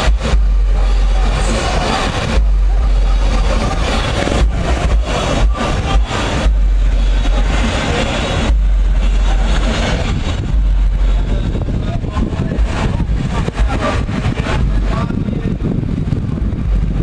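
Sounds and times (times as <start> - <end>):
motorcycle engines droning: 0.0 - 17.0
wind buffeting microphone: 0.0 - 17.0.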